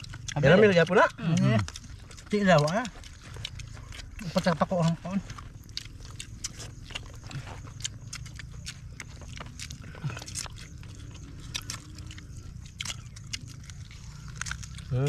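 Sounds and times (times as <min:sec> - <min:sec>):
people chewing and biting: 0:00.0 - 0:15.0.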